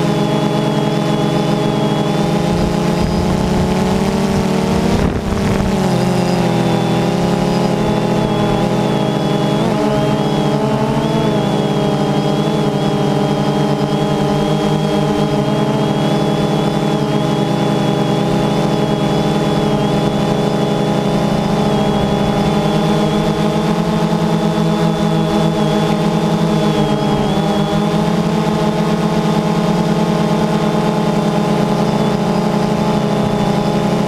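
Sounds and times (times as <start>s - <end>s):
drone motors buzzing: 0.0s - 34.0s.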